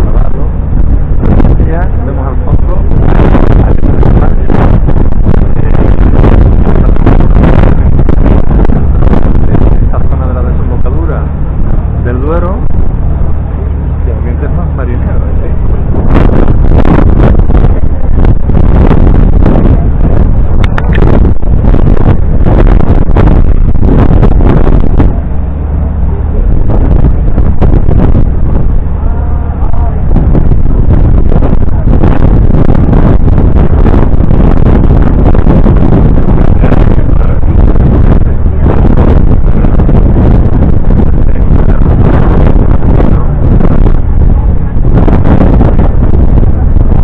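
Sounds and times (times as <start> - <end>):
boat engine running: 0.0 - 47.0
wind noise on microphone: 0.0 - 47.0.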